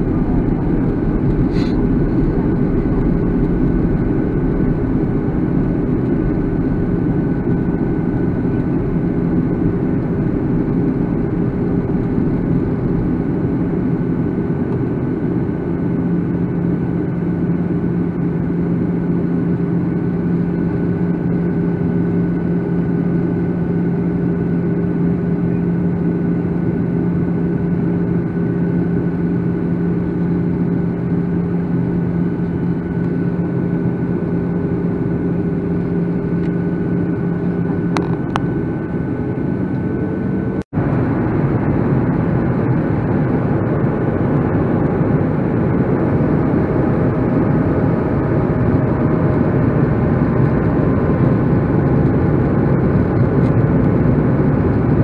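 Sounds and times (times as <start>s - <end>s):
jet cabin engine drone: 0.0s - 55.0s.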